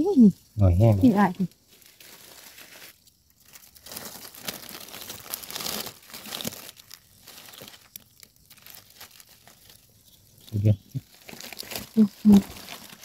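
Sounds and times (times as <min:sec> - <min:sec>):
dry leaves crackling and rustling: 0:00.6 - 0:13.0.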